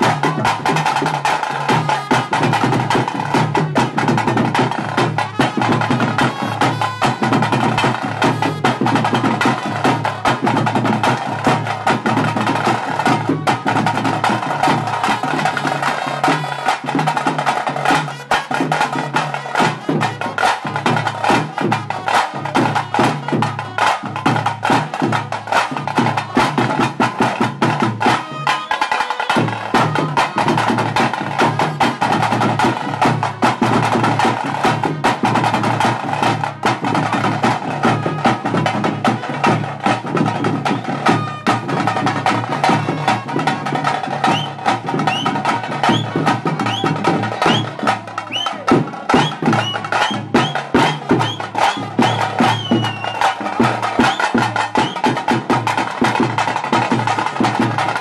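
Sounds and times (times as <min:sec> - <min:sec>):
drums beaten fast with sticks: 0:00.0 - 0:58.0.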